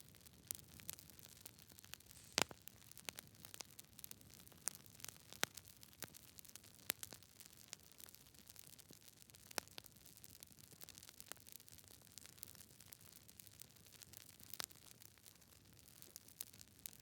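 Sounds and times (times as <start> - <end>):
wood fire crackling: 0.2 - 17.0.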